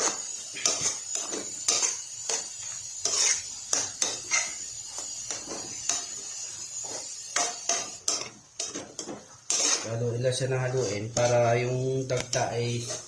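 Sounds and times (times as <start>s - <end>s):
utensil scraping and clinking in pan: 0.0s - 13.0s.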